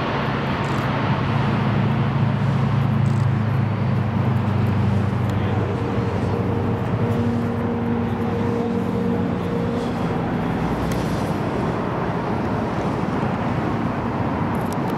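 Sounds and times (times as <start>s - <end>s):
turboprop engines rushing drone: 0.0s - 14.9s.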